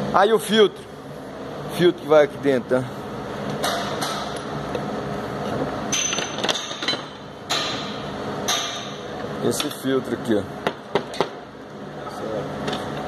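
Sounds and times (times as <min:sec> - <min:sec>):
low workshop hum: 0:00.0 - 0:13.0.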